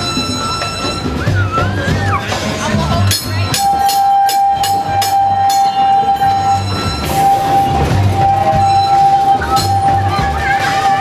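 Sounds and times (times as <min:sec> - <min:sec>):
streetcar whistle: 0:00.0 - 0:11.0.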